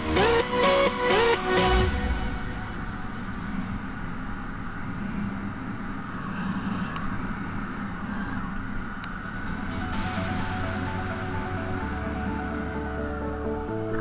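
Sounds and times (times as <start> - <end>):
road and wind noise: 1.6 - 14.0.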